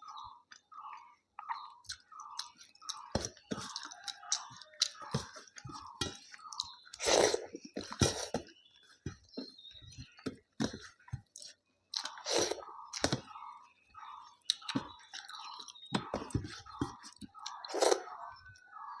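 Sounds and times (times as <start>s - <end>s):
chewing food: 0.0s - 19.0s.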